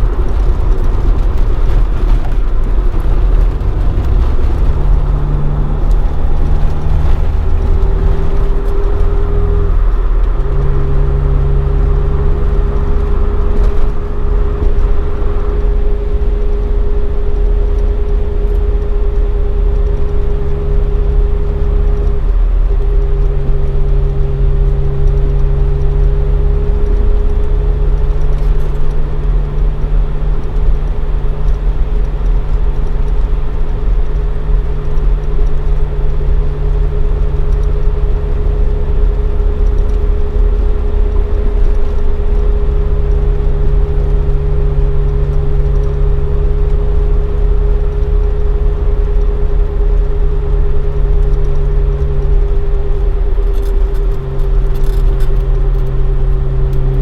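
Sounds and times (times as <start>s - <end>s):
car engine cruising: 0.0s - 57.0s.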